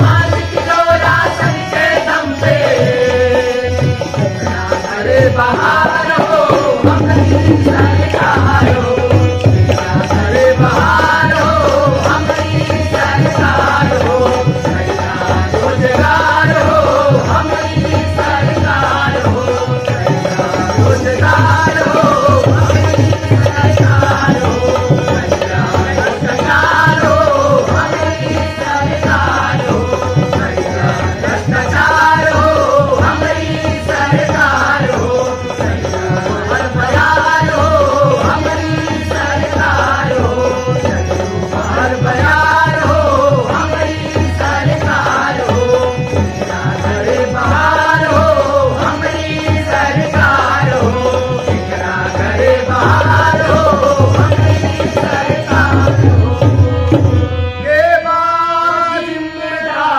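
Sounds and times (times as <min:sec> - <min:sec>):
drums playing lively rhythm: 0:00.0 - 0:57.6
group singing folk song: 0:00.0 - 0:59.9
harmonium: 0:00.0 - 0:59.9.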